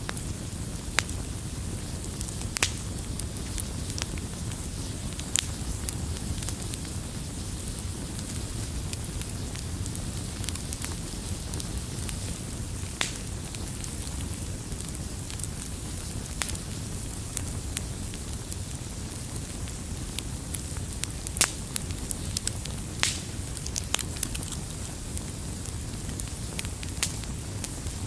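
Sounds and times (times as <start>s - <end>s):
fire crackling and popping: 0.0s - 28.0s
low rumble of flame: 0.0s - 28.0s.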